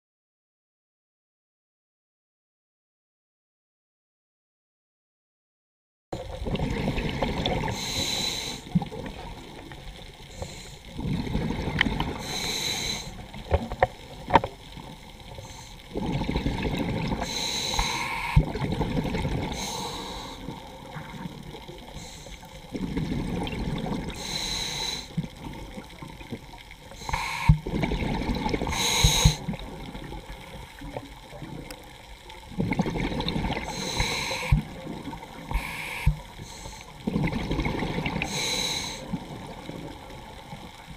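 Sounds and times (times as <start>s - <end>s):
exhaled bubbles rumbling underwater: 6.2s - 40.9s.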